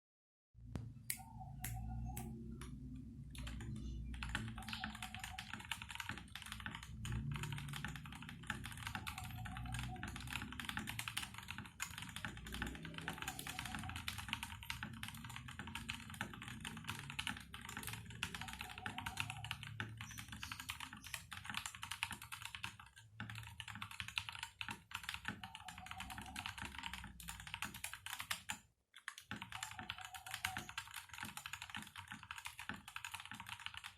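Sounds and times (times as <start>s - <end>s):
typing on mechanical keyboard: 3.3s - 33.9s.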